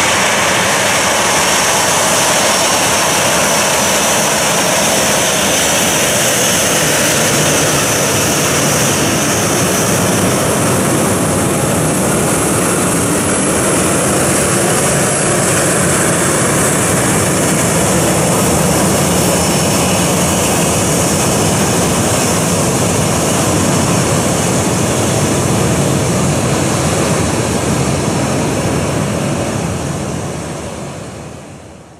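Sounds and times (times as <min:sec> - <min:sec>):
jet engine roar with whine: 0:00.0 - 0:31.9.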